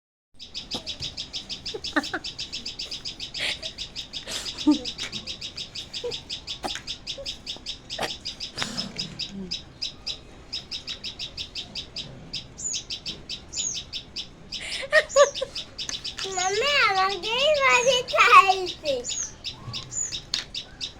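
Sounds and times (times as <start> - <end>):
small bird chirping: 0.4 - 20.9.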